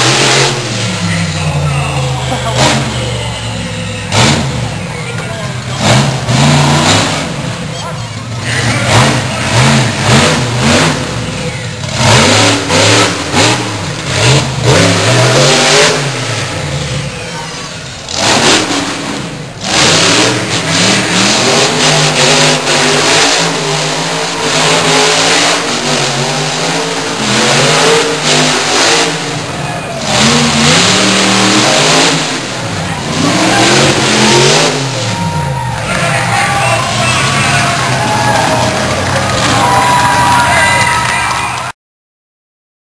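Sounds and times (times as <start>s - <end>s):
monster truck engine revving: 0.0s - 41.8s.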